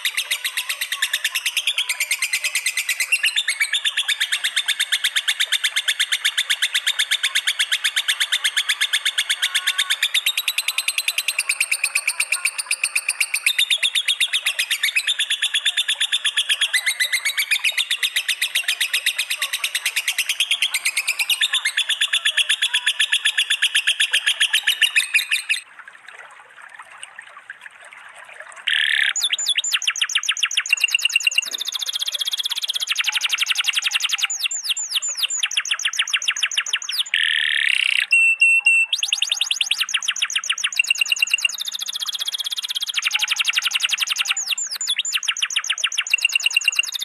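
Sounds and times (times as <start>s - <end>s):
songbird trills and chatter: 0.0s - 25.7s, 28.7s - 47.0s.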